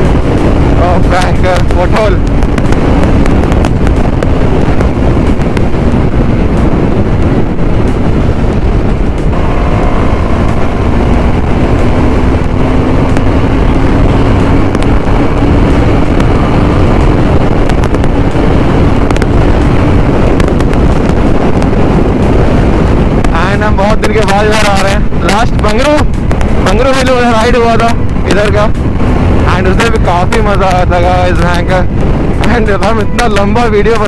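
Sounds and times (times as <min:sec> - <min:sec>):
motorcycle engine at speed: 0:00.0 - 0:34.0
wind noise on microphone: 0:00.0 - 0:34.0.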